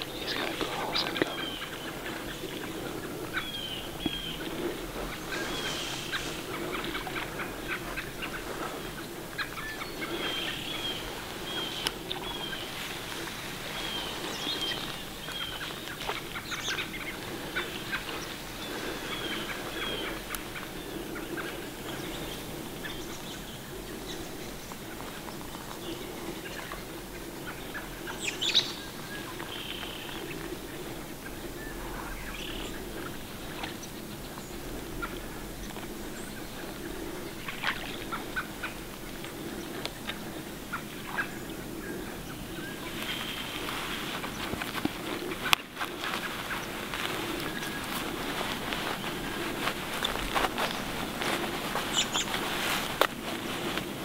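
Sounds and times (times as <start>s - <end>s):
birds chirping: 0.0s - 54.0s
rustling and crackling in dry grass: 0.0s - 54.0s.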